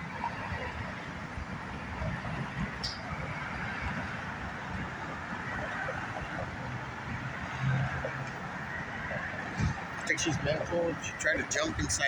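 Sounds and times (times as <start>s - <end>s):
street traffic: 0.0s - 12.0s
vehicle engine humming: 0.0s - 12.0s.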